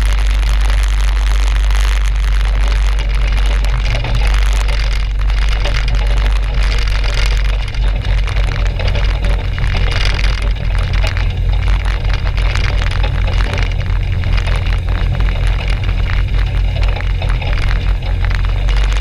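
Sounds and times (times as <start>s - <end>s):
aircraft engine idling: 0.0s - 19.0s
wind crackling on microphone: 0.0s - 19.0s.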